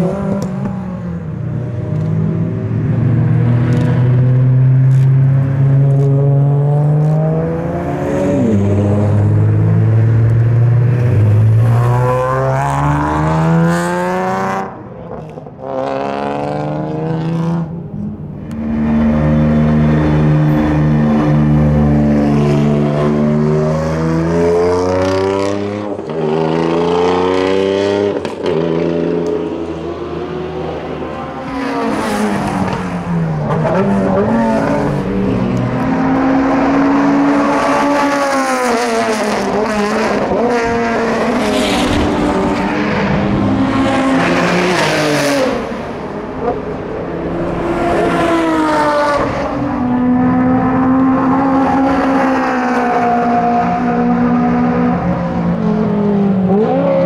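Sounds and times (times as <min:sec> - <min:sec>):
race car engine at full throttle: 0:00.0 - 0:57.0.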